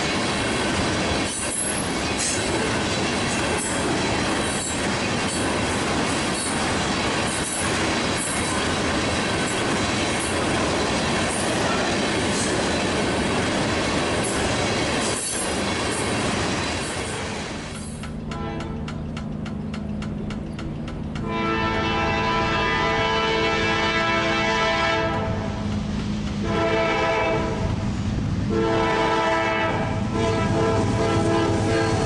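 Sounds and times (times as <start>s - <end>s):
train wheels on rails: 0.0s - 32.0s.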